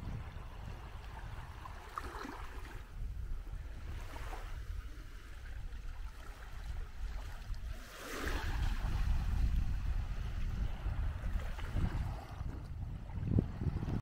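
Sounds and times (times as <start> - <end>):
small waves washing onto beach: 0.0 - 14.0
wind rumbling on microphone: 0.0 - 14.0.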